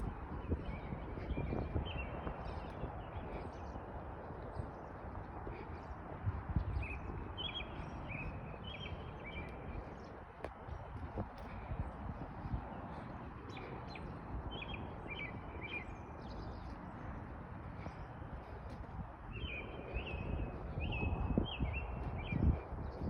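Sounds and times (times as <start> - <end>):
songbird singing: 0.0 - 23.0.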